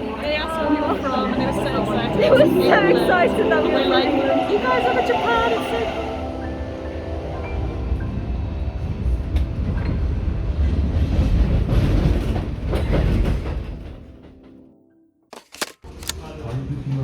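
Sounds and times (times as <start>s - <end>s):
train running on rails: 0.0s - 14.6s.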